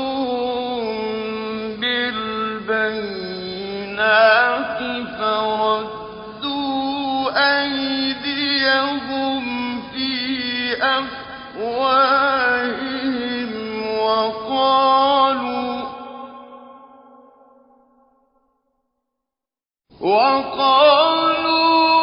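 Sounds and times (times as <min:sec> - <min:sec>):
man chanting recitation: 0:00.0 - 0:16.4, 0:20.0 - 0:22.0.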